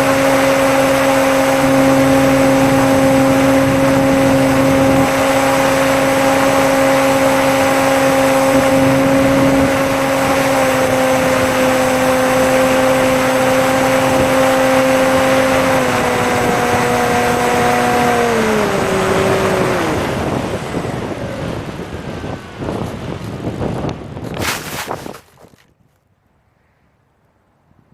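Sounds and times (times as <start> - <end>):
electric model plane motor whine: 0.0 - 24.3
wind noise: 0.0 - 25.9.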